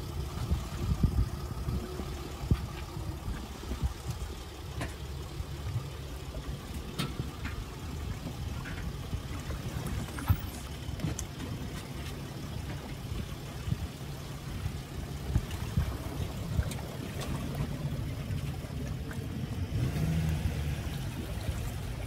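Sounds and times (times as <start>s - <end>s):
car engine running low: 0.0s - 22.0s.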